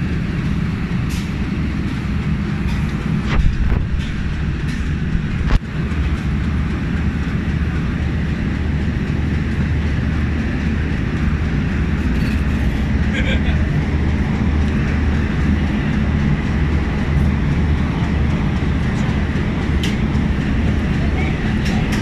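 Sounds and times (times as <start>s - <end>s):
diesel train engine droning: 0.0s - 22.0s.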